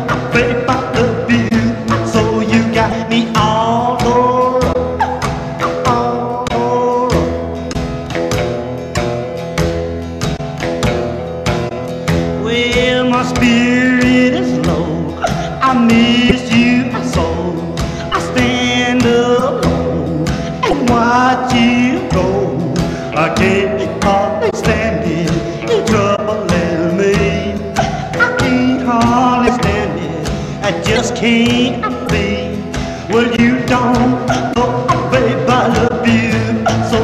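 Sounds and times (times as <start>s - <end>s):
pop song with sung vocal: 0.0s - 7.8s, 12.3s - 37.0s.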